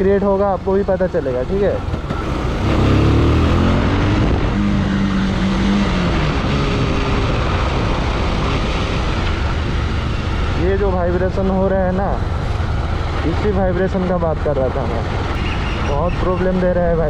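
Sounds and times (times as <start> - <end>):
motorcycle engine accelerating: 0.0 - 15.3.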